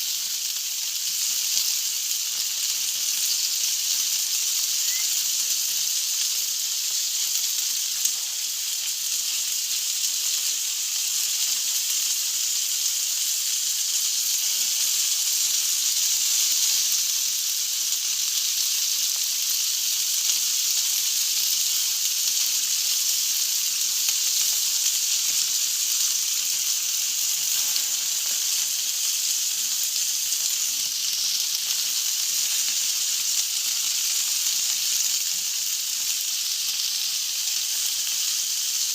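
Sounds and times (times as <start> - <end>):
food sizzling on a grill: 0.0 - 38.9.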